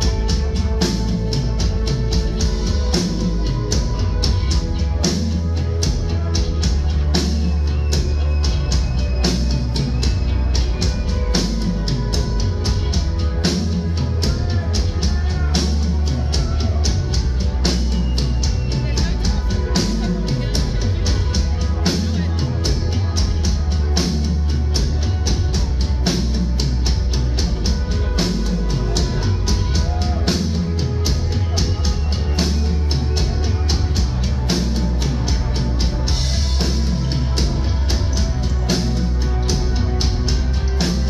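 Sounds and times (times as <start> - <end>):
drum-kit beat: 0.0 - 41.0
live rock band playing: 0.0 - 41.0.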